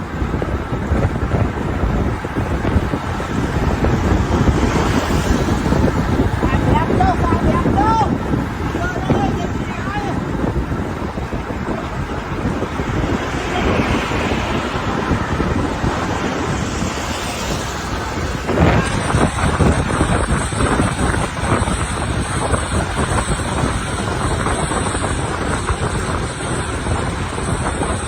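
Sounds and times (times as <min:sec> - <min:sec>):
road and traffic noise: 0:00.0 - 0:28.0
wind buffeting microphone: 0:00.0 - 0:28.0.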